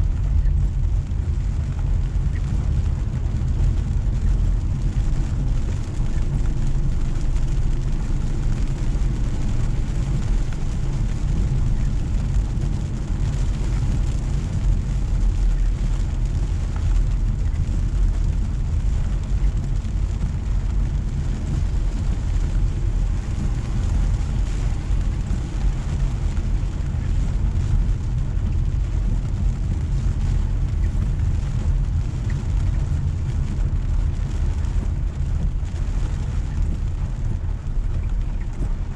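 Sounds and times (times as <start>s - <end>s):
rain hiss and spray: 0.0s - 38.9s
road and tyre noise: 0.0s - 38.9s.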